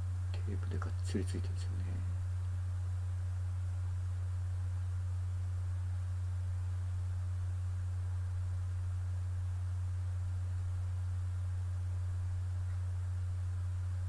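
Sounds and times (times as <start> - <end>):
faint background hiss: 0.0 - 14.0
low electrical hum: 0.0 - 14.0.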